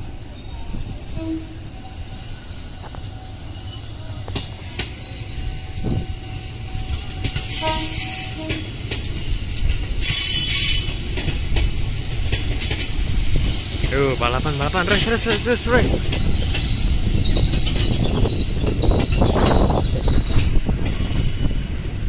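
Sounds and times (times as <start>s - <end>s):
train wheel rumble: 0.0s - 22.0s
wheels screeching on track: 0.0s - 22.0s.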